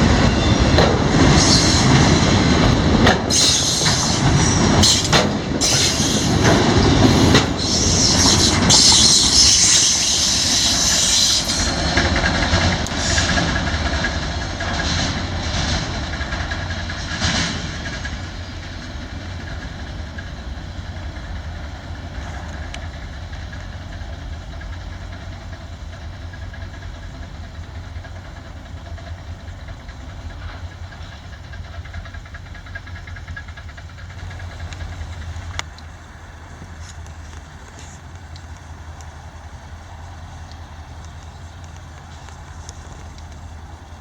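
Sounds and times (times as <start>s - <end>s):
freight train rumbling on rails: 0.0s - 44.0s.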